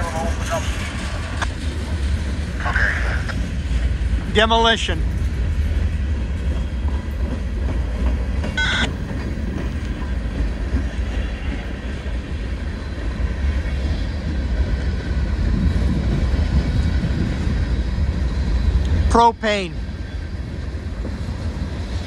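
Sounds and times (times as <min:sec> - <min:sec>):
wind rumble on microphone: 0:00.0 - 0:19.2, 0:19.8 - 0:22.0
train wheels clicking on rails: 0:00.0 - 0:22.0.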